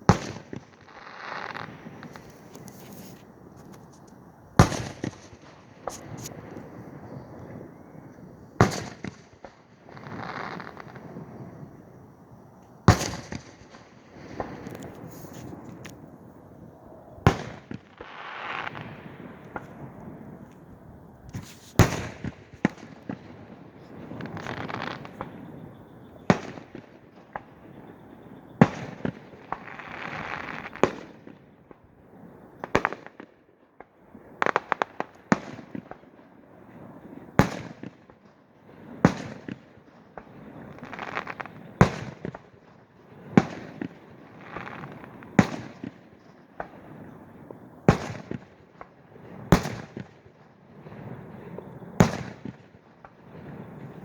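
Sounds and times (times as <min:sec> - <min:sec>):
fireworks bangs: 0:00.0 - 0:12.0, 0:12.8 - 0:16.1, 0:17.2 - 0:28.0, 0:28.6 - 0:31.8, 0:32.6 - 0:54.0
fireworks crackling and hiss: 0:00.0 - 0:16.6, 0:17.2 - 0:27.9, 0:28.6 - 0:54.0.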